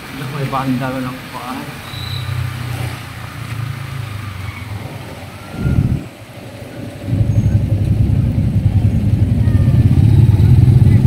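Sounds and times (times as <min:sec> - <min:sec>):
scooter engine rumble: 0:00.0 - 0:11.0.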